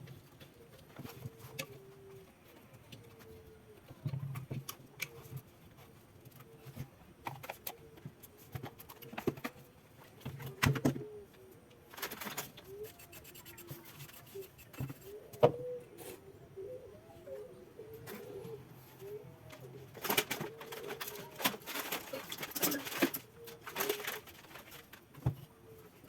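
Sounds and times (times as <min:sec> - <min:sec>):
pigeon cooing: 0:00.0 - 0:26.0.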